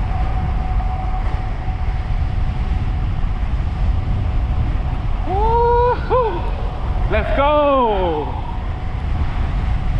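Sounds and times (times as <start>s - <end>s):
faint high whine: 0.0s - 9.9s
wind buffeting microphone: 0.0s - 9.9s.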